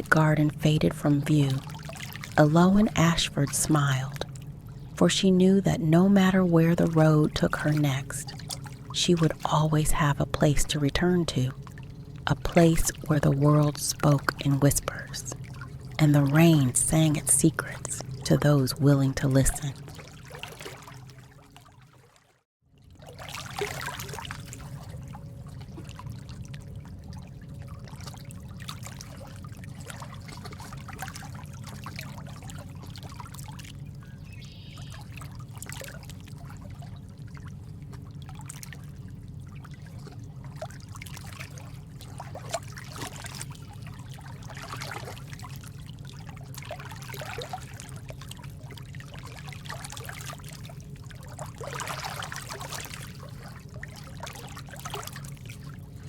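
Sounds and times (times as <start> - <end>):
water trickling and dripping: 0.0 - 5.0, 5.7 - 56.0.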